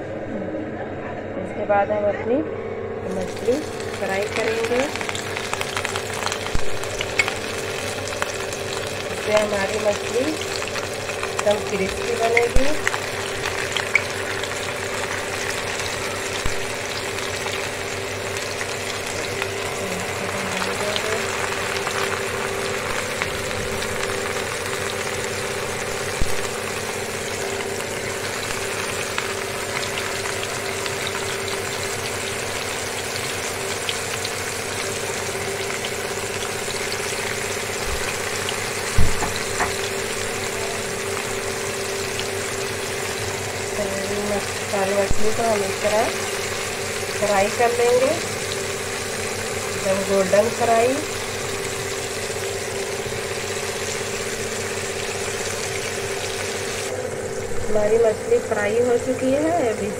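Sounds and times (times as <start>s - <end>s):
fish sizzling in hot oil: 3.1s - 59.9s.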